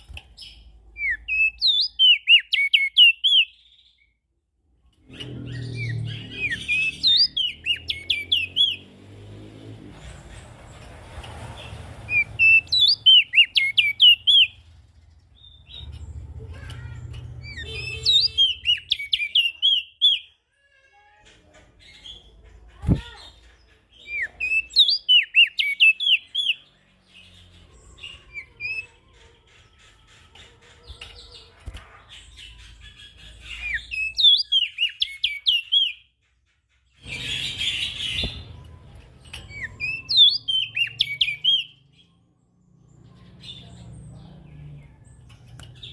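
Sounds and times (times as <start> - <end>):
songbird chirping rapidly: 0.0 - 20.4, 21.7 - 45.9.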